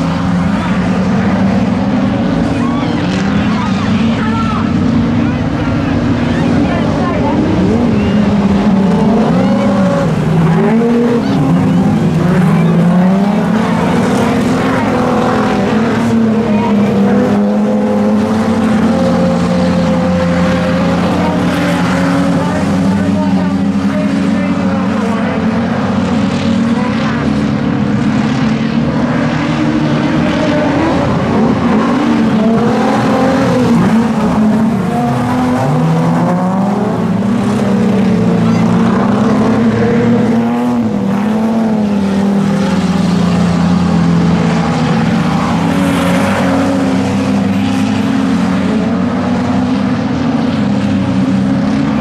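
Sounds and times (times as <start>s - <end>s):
race car engines revving: 0.0s - 52.0s.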